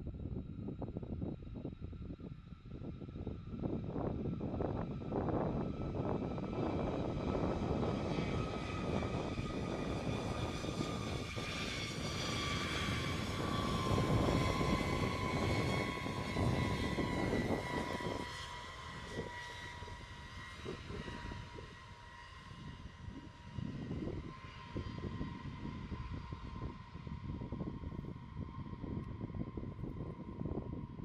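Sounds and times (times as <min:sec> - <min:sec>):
jet engines whining and rumbling: 0:00.0 - 0:31.0.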